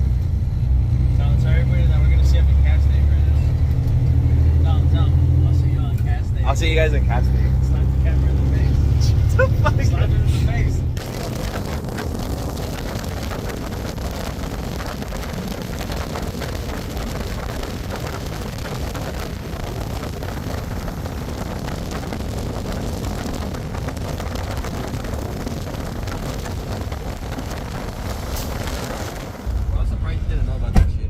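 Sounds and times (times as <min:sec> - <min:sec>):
vehicle road and wind noise: 0:00.0 - 0:31.0.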